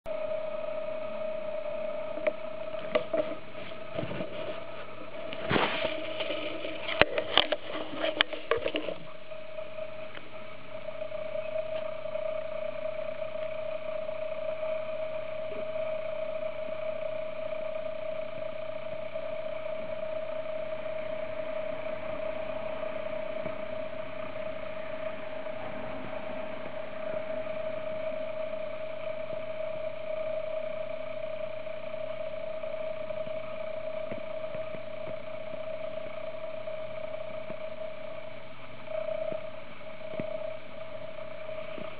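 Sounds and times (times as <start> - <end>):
steady mid-pitched hum: 0.1 - 41.9.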